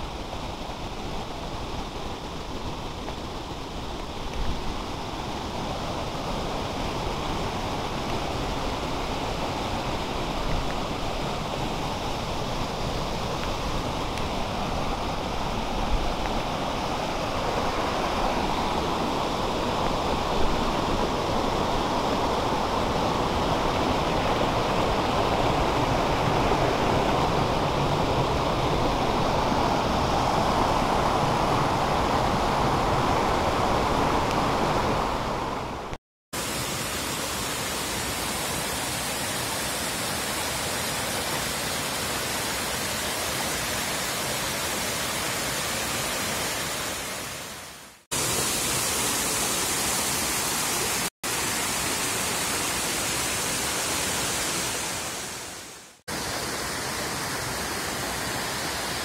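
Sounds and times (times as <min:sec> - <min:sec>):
stream water over rocks: 0:00.0 - 0:59.0.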